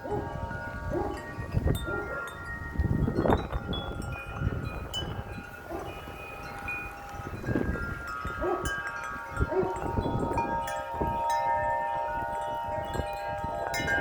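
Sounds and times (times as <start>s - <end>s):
wind buffeting microphone: 0.0s - 14.0s
wind chimes ringing: 0.0s - 14.0s.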